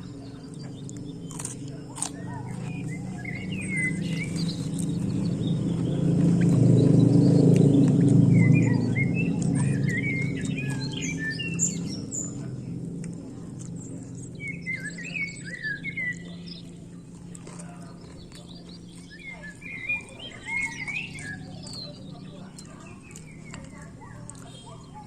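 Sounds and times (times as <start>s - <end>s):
low hum: 0.0s - 23.9s
songbird warbling chirps: 0.0s - 25.0s.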